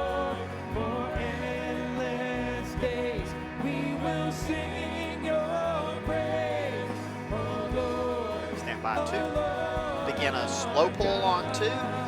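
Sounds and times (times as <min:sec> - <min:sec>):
singers holding long notes: 0:00.0 - 0:12.0
worship band playing slow song: 0:00.0 - 0:12.0.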